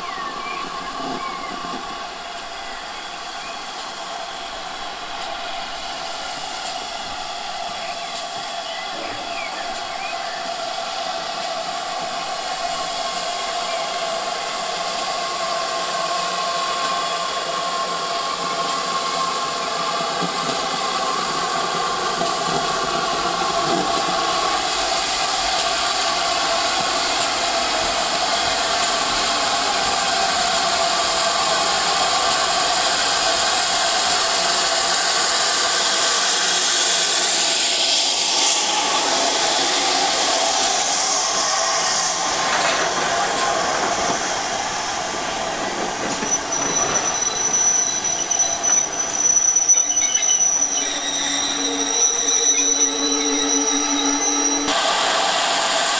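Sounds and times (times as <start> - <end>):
high-pitched squeal: 0.0 - 55.9
train running on rails: 0.0 - 55.9
train wheels squealing: 0.0 - 55.9.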